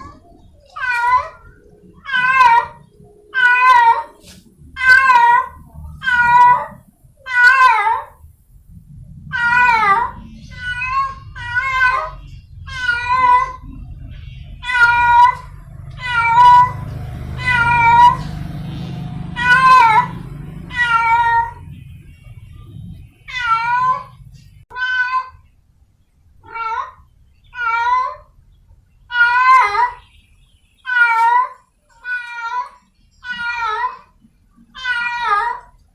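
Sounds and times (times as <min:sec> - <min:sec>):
cat yowling: 0:00.0 - 0:08.2, 0:09.3 - 0:13.9, 0:14.6 - 0:21.8, 0:23.2 - 0:25.4, 0:26.4 - 0:28.4, 0:29.1 - 0:30.0, 0:30.9 - 0:35.8.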